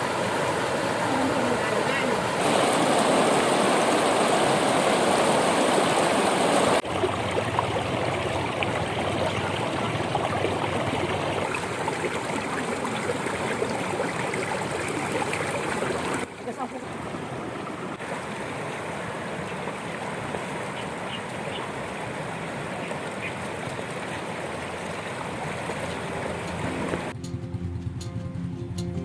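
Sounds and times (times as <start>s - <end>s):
running water: 0.0s - 27.6s.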